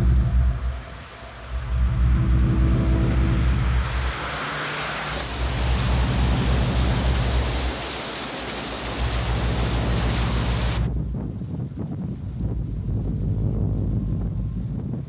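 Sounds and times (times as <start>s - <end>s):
low rumble: 0.0s - 15.0s
rushing wind: 0.0s - 15.0s.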